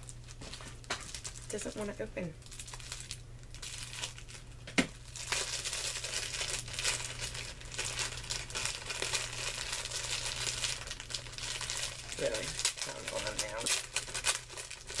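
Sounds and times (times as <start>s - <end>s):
packaging wrap crinkling and tearing: 0.0s - 15.0s.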